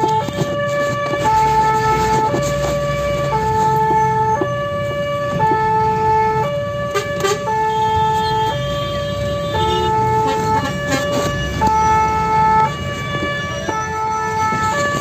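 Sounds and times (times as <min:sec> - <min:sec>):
two-tone siren: 0:00.0 - 0:15.0.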